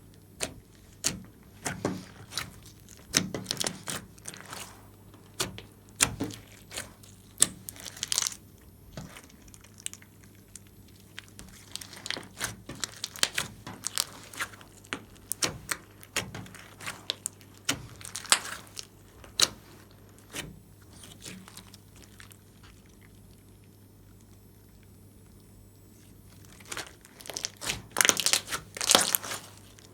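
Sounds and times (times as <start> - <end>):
slime squishing and popping: 0.1 - 23.4, 24.1 - 29.9.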